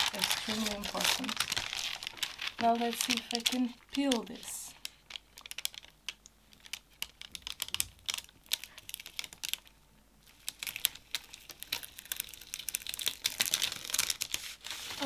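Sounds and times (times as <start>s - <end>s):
paper peeling and crackling: 0.0s - 15.0s.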